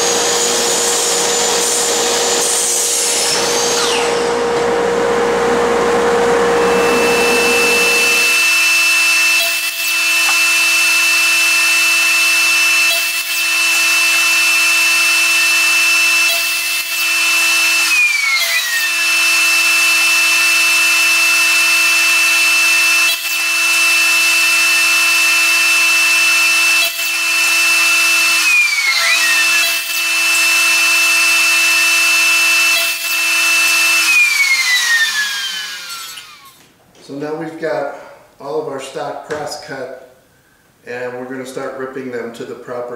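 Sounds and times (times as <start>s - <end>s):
miter saw whining: 0.0s - 36.6s.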